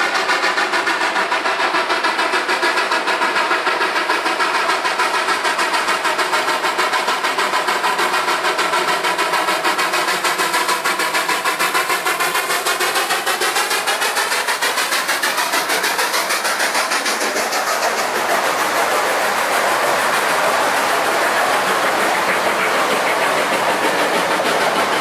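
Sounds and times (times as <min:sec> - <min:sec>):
steam locomotive chuffing: 0:00.0 - 0:25.0
train cars rolling on rails: 0:00.0 - 0:25.0.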